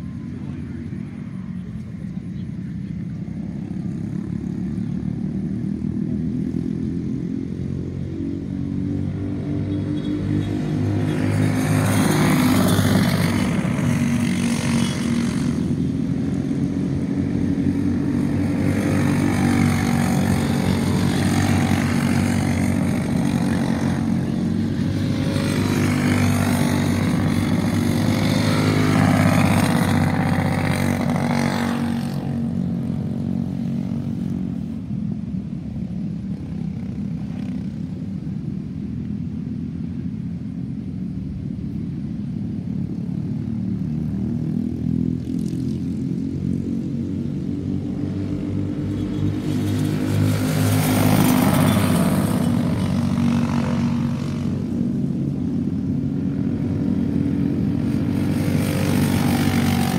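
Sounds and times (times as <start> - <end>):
go-kart engines passing: 0.0 - 59.9.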